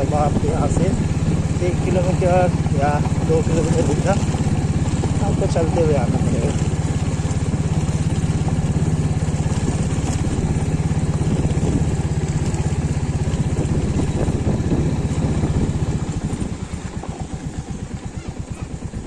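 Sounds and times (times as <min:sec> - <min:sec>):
motorcycle engine pulsing: 0:00.0 - 0:19.0.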